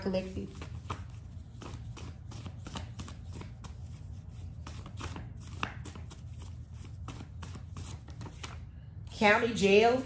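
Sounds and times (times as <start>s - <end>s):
low steady hum: 0.0s - 10.0s
cards being shuffled: 0.5s - 8.6s.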